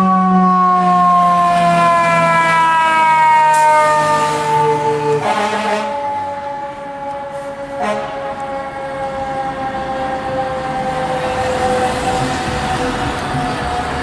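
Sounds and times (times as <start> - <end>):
fire truck air horn blast: 0.0 - 12.8.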